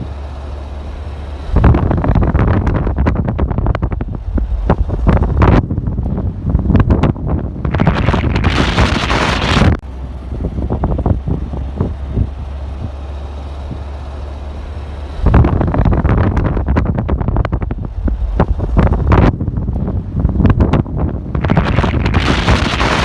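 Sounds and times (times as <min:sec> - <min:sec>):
wind buffeting microphone: 0:01.4 - 0:14.0, 0:15.2 - 0:23.0.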